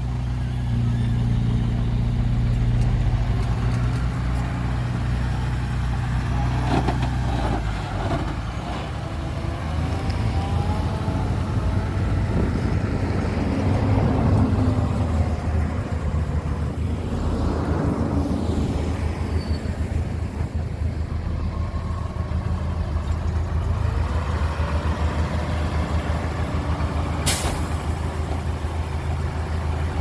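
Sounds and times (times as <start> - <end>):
diesel machinery engine drone: 0.0 - 30.0.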